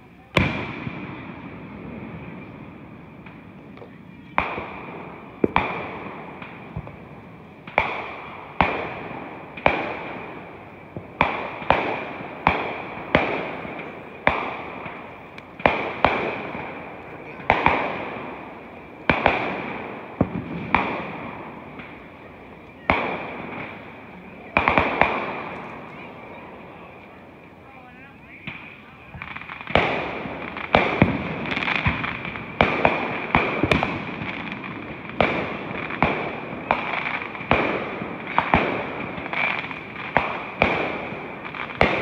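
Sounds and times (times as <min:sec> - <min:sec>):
fireworks booming with echo: 0:00.0 - 0:42.0.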